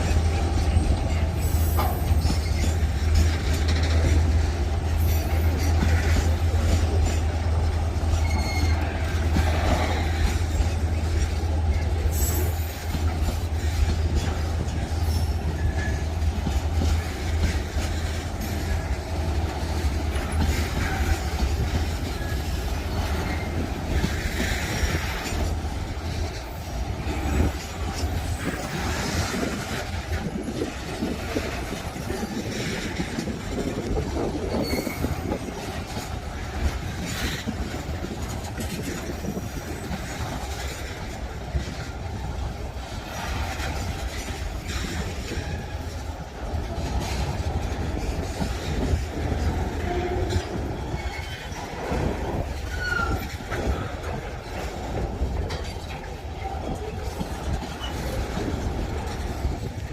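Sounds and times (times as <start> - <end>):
train wheel squeals: 0.0 - 59.7
freight train rumbling past: 0.0 - 59.9
train wheels clacking: 0.0 - 59.9.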